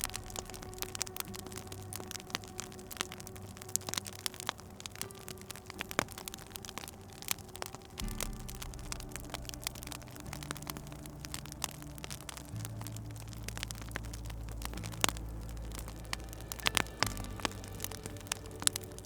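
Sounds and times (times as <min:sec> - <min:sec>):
soft low sustained music: 0:00.0 - 0:19.0
wood fire crackling and popping: 0:00.0 - 0:19.0.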